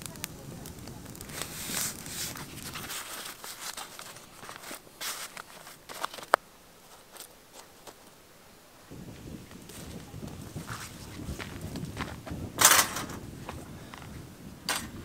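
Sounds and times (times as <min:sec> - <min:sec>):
corn husks tearing and rustling: 0:00.0 - 0:08.2, 0:09.4 - 0:13.6.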